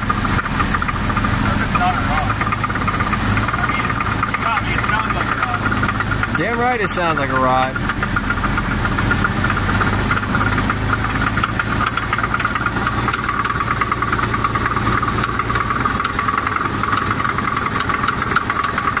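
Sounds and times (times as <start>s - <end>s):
engine running with rapid knocking: 0.0s - 19.0s.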